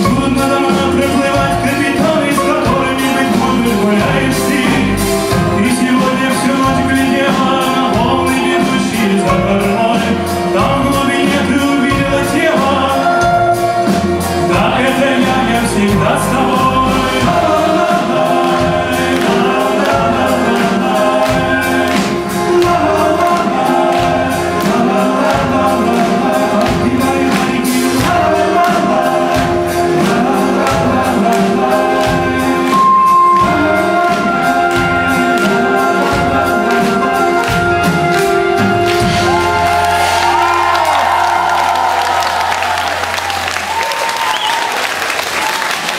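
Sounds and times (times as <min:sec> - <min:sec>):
man singing: 0:00.0 - 0:40.9
drum beat: 0:00.0 - 0:44.7
live band music: 0:00.0 - 0:45.9.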